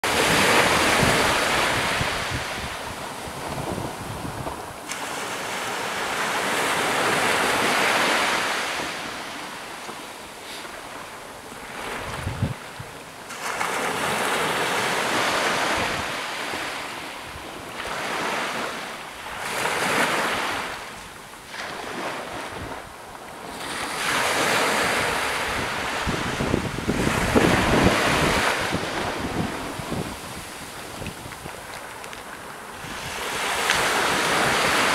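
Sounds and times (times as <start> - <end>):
small waves breaking on beach: 0.0 - 34.9.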